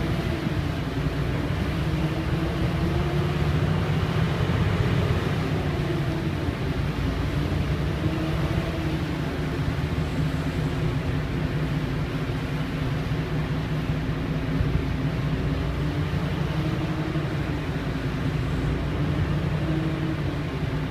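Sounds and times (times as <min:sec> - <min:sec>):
faint wavering hum: 0:00.0 - 0:20.9
vehicle rumble: 0:00.0 - 0:20.9.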